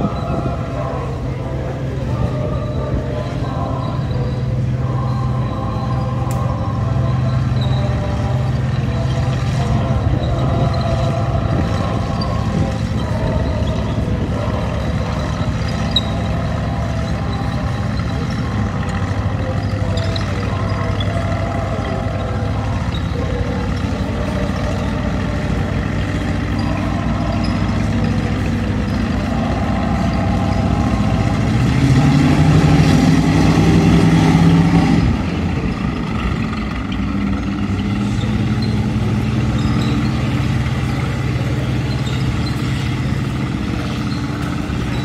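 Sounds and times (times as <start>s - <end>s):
tank engines running: 0.0s - 45.0s.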